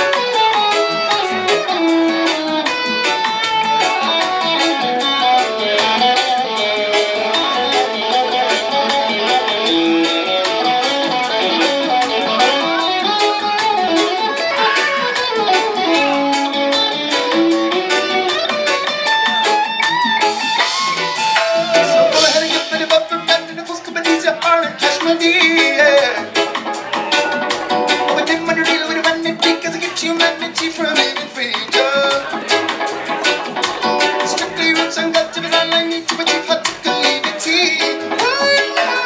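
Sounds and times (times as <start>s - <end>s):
electric guitar solo: 0.0s - 39.0s
reggae band playing: 0.0s - 39.0s.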